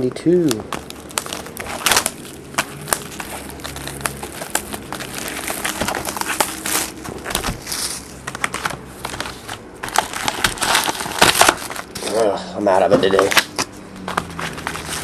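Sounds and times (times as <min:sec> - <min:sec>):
wrappers crinkling and tearing: 0:00.4 - 0:15.0.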